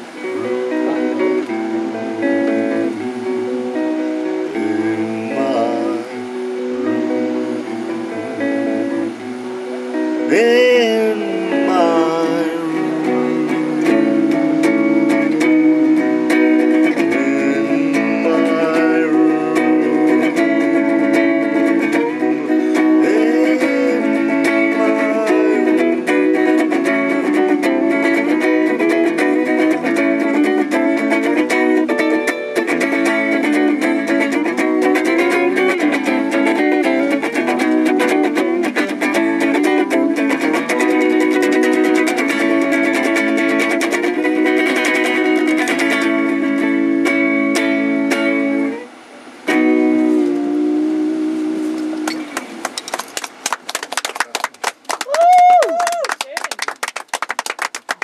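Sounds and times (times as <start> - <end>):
clean electric guitar melody: 0.0 - 52.7.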